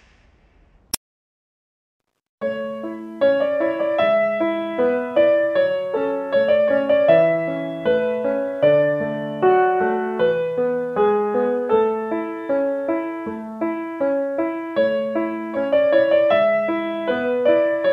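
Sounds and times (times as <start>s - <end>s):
gentle piano music: 2.4s - 17.9s.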